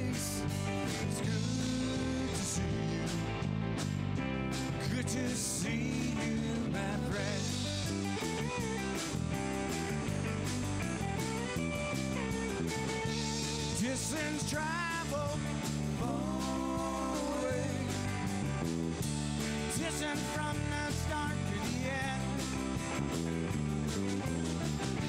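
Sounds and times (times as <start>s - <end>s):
live rock band playing: 0.0s - 25.0s
wavering lead guitar line: 0.0s - 25.0s.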